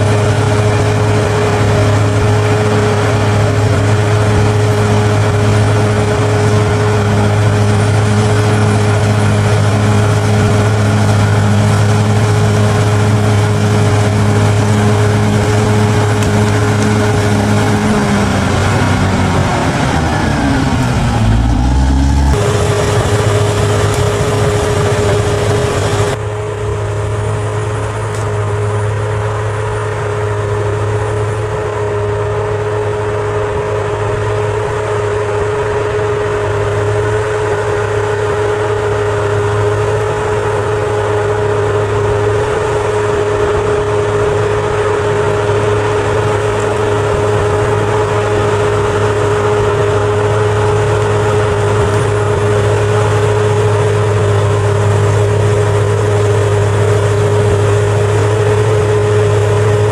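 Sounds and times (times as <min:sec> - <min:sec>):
bulldozer engine droning: 0:00.0 - 0:59.9.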